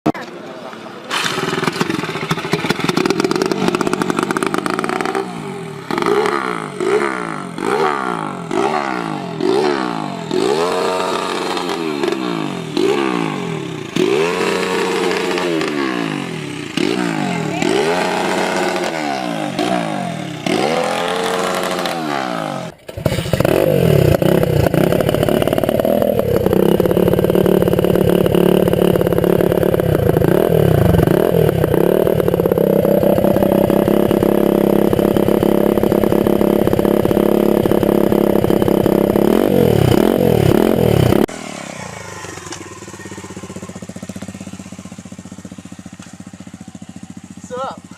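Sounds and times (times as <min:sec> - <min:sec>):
mini bike engine revving: 0:00.1 - 0:47.9
engine running at high revs: 0:01.1 - 0:47.2.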